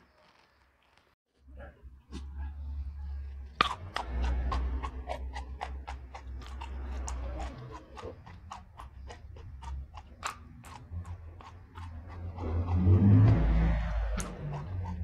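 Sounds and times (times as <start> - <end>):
crunching and chewing beans: 0.0 - 15.0.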